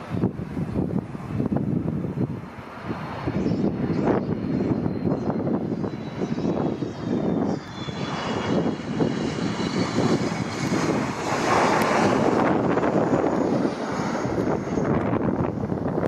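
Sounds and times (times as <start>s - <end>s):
jet engines rushing and whining: 0.0s - 16.0s.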